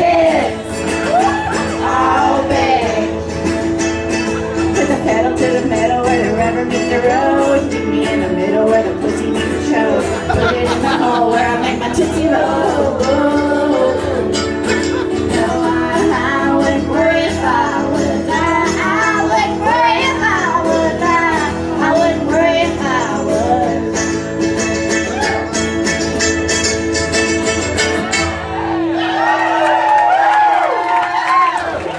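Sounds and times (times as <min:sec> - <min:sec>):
banjo and guitar music: 0:00.0 - 0:29.2.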